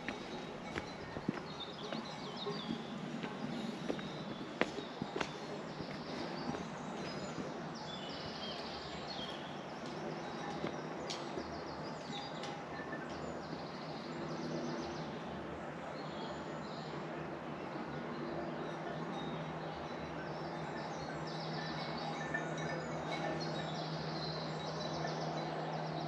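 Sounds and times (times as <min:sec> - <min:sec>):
steady outdoor hiss: 0:00.0 - 0:26.0.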